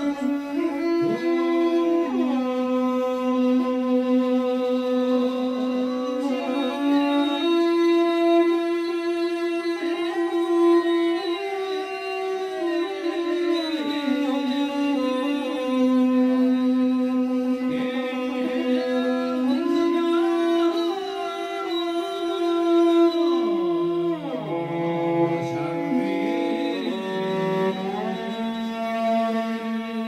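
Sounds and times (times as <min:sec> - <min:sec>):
bowed fiddle melody: 0:00.0 - 0:30.0.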